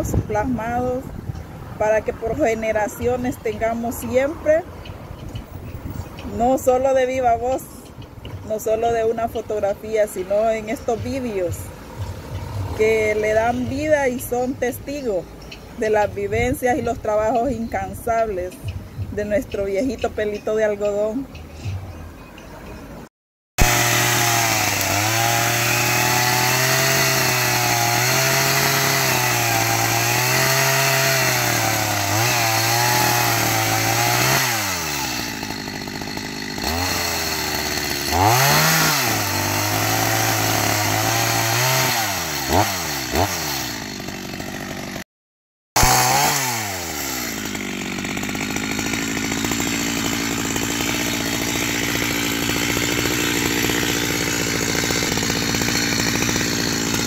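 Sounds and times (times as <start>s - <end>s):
chainsaw cutting branches: 1.7s - 21.8s, 23.6s - 45.0s, 45.8s - 57.0s.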